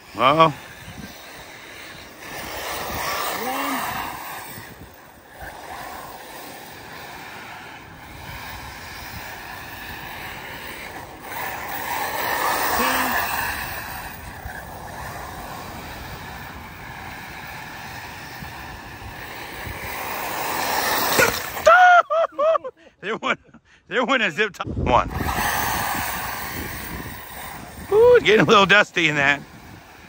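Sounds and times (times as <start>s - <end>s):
electric motor whine: 0.0s - 21.7s, 25.1s - 30.0s
tyres rushing on loose dirt: 0.0s - 21.9s, 25.0s - 30.0s.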